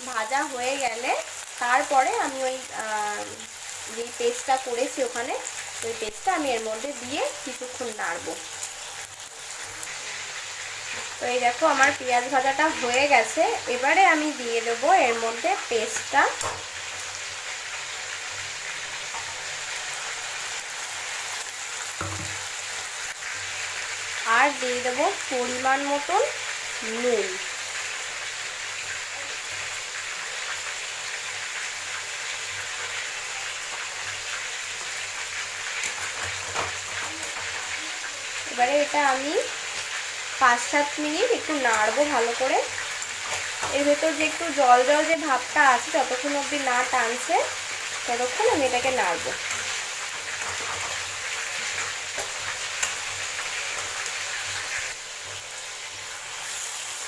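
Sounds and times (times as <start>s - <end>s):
paste sizzling in hot oil: 0.0s - 57.0s.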